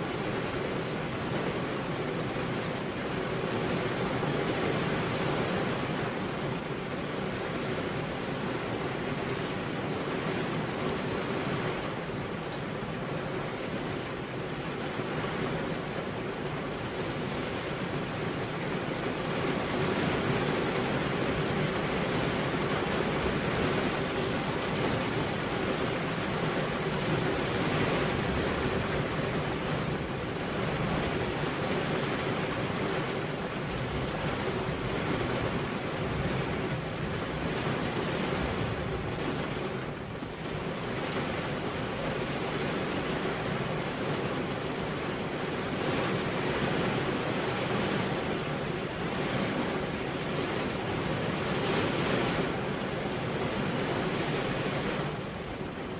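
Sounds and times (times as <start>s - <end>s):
heavy rain on a road: 0.0s - 55.9s.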